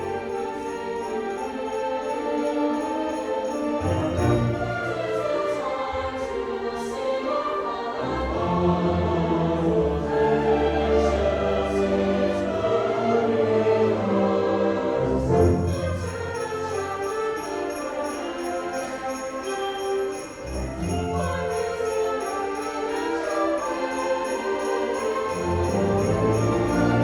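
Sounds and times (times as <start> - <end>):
orchestra playing: 0.0 - 5.8, 7.8 - 27.0
sleigh bells: 0.0 - 27.0.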